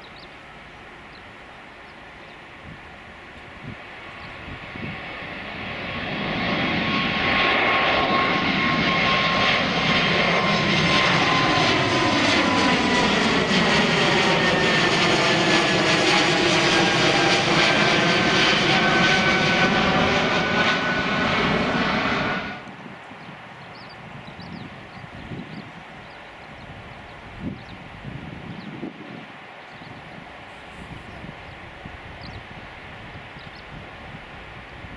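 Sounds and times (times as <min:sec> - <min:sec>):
jet engine rumble: 0:00.0 - 0:34.9.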